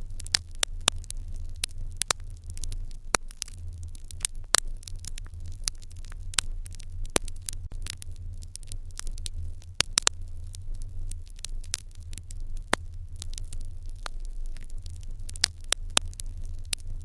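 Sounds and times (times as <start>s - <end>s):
fire crackling in a hearth: 0.0s - 17.0s
steady low hum: 0.0s - 17.0s.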